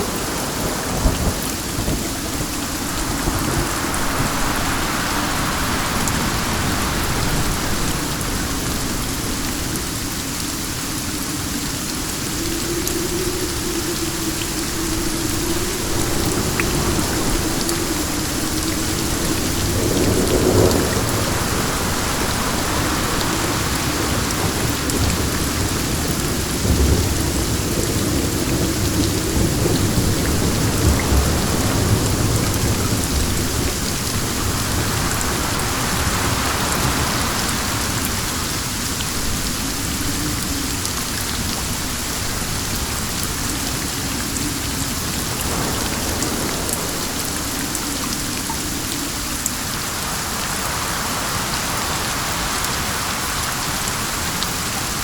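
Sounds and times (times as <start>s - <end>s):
steady rain: 0.0s - 55.0s
wind: 0.0s - 55.0s.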